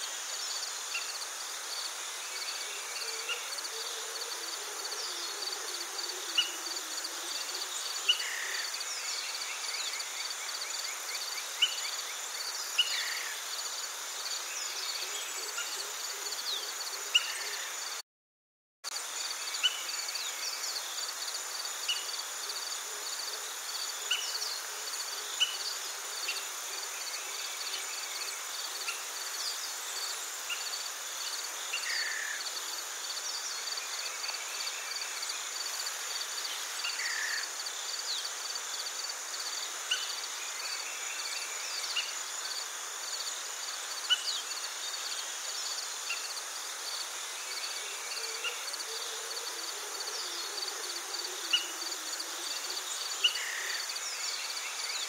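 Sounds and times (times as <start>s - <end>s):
insects chirping chorus: 0.0s - 18.0s, 18.9s - 55.0s
short sharp insect calls: 0.0s - 18.0s, 19.0s - 55.0s.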